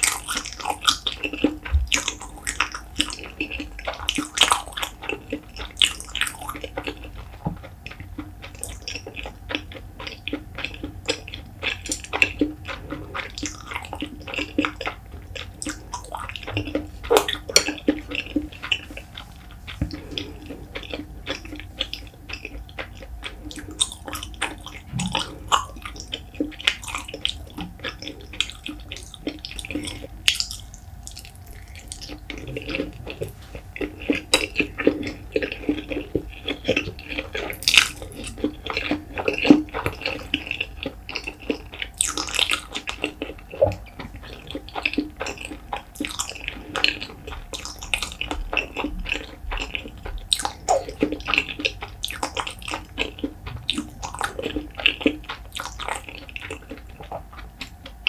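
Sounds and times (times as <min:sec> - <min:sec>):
wet chewing with mouth clicks: 0:00.0 - 0:58.0.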